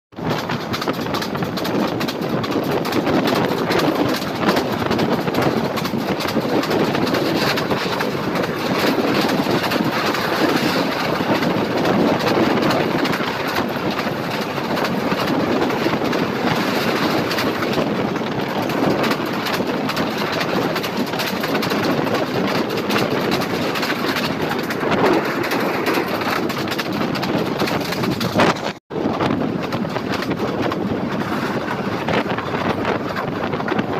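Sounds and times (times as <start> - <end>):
rumble of train wheels on rails: 0.1 - 33.9.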